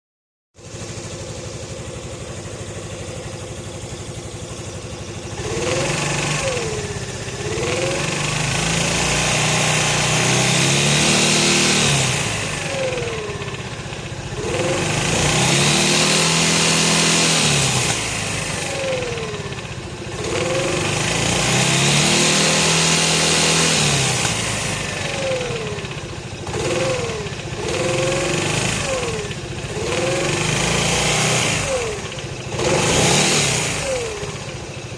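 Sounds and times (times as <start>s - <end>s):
scooter engine idling and revving: 0.6s - 34.9s.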